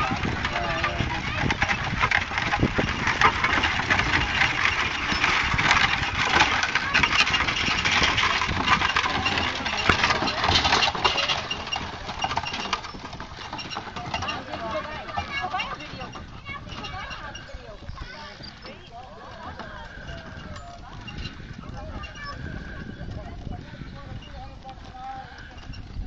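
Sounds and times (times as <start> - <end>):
wagon rattling and clinking: 0.0 - 26.0
wagon wheels crunching on gravel: 0.0 - 26.0.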